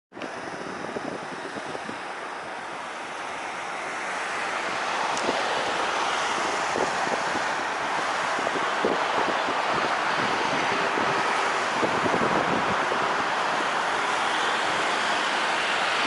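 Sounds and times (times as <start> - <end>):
jet airliner engine noise: 0.1 - 16.0
wind buffeting microphone: 0.1 - 16.0.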